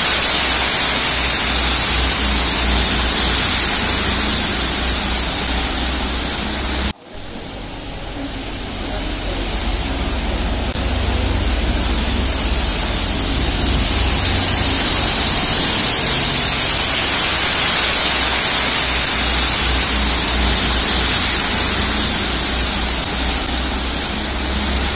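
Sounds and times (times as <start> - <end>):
rumble of train wagons rolling: 0.0 - 24.9
water jets hissing: 0.0 - 24.9.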